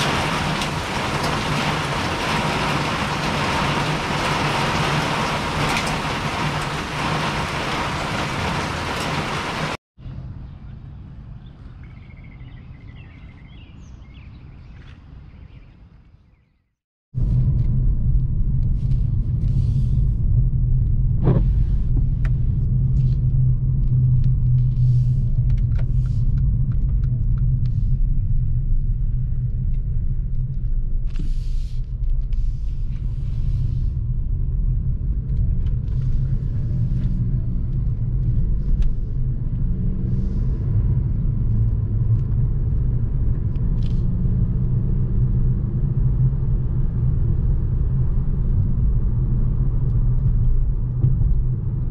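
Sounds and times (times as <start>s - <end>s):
vehicle rumble in motion: 0.0s - 51.9s.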